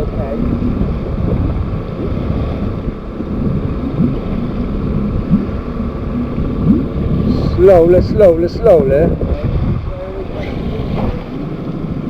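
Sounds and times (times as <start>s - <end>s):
outboard motor running: 0.0s - 12.0s
wind buffeting on microphone: 0.0s - 12.0s.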